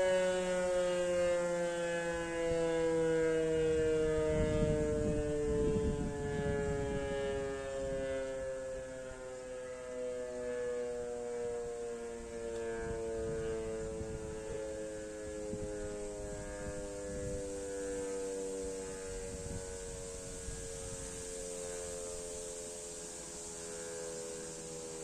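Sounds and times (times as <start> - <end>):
siren winding down: 0.0 - 25.0.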